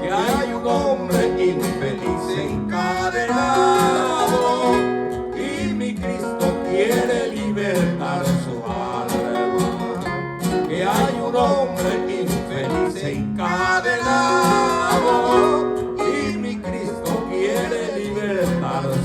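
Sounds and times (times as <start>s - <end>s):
guitar accompaniment: 0.0s - 19.0s
person singing: 0.0s - 19.0s.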